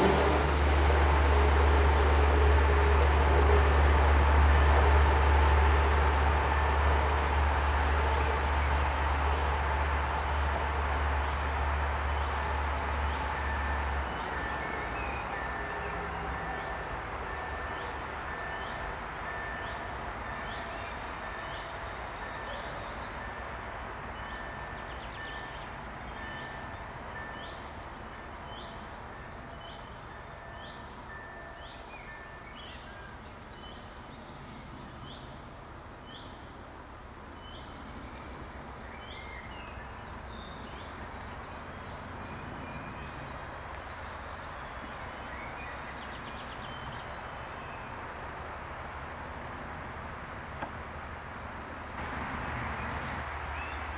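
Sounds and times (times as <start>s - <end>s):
rail vehicle rumbling on track: 0.0s - 53.9s.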